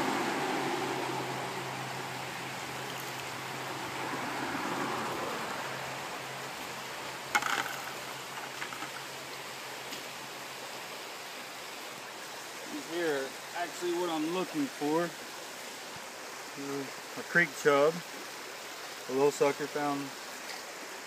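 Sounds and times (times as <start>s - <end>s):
creek water running over rocks: 0.0s - 21.0s.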